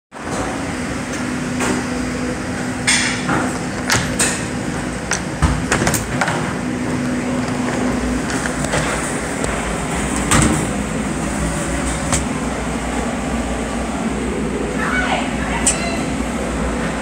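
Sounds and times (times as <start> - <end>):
machinery hum: 0.2 - 17.0.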